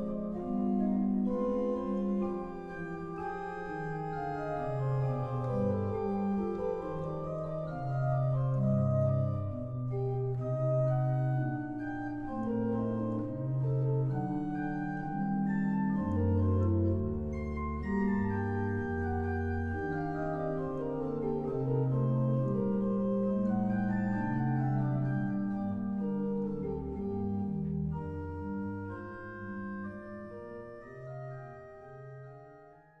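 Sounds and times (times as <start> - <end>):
pipe organ chords: 0.0 - 32.7.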